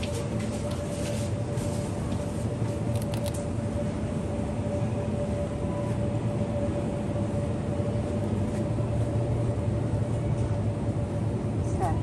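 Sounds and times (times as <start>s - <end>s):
refrigeration low hum and rumble: 0.0s - 12.0s.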